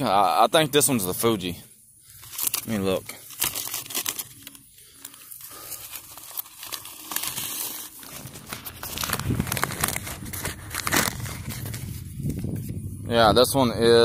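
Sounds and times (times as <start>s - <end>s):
crinkling crackling rustle: 0.9s - 13.0s.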